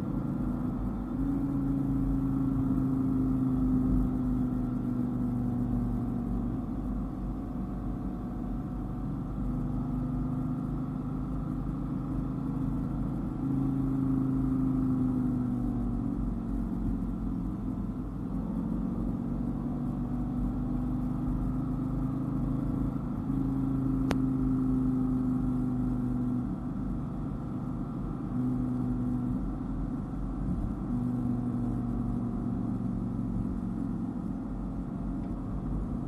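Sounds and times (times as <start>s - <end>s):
car engine cruising: 0.0s - 36.0s
road rumble: 0.0s - 36.0s.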